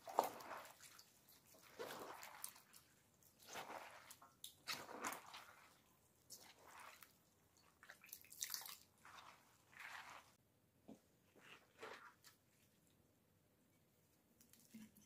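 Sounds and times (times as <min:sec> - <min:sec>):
wet vegetables squishing in bowl: 0:00.0 - 0:10.4, 0:11.3 - 0:13.0.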